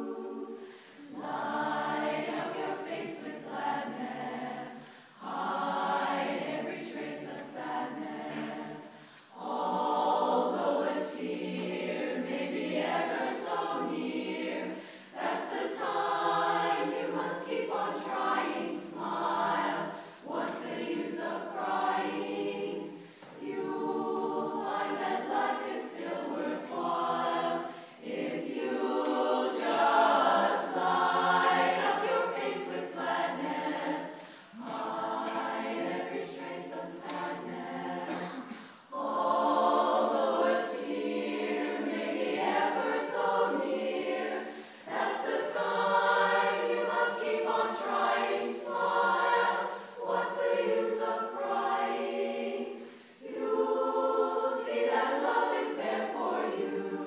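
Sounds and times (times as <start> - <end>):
women's chorus singing: 0.0 - 57.0.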